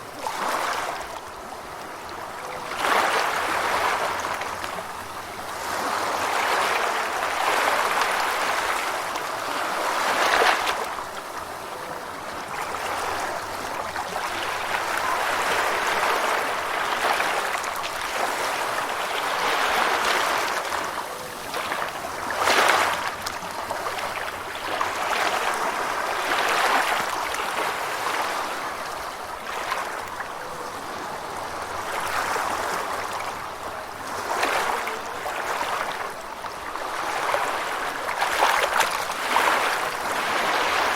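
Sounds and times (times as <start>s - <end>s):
gentle ocean waves: 0.0s - 40.9s
wave splash: 0.0s - 40.9s.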